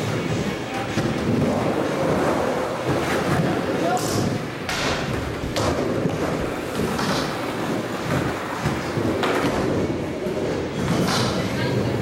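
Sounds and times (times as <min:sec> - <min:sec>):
skateboard wheels rolling on wood: 0:00.0 - 0:12.0.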